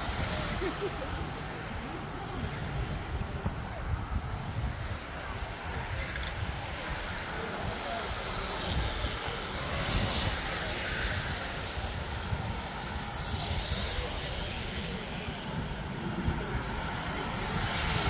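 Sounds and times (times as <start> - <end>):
bicycle tyres hissing on tarmac: 0.0 - 18.0.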